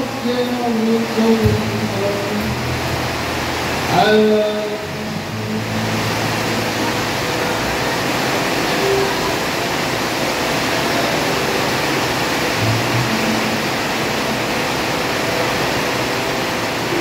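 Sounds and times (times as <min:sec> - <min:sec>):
heavy rain on pool water: 0:00.0 - 0:17.0.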